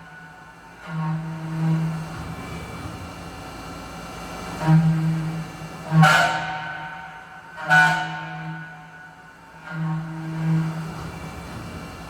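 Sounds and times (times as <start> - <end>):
milling machine hum and whine: 0.0 - 12.0.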